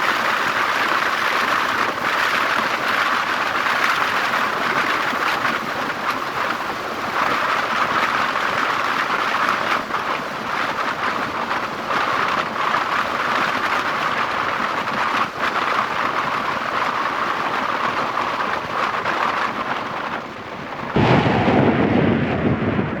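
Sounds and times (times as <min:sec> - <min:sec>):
wind and road noise: 0:00.0 - 0:23.0
wind buffeting microphone: 0:00.0 - 0:23.0.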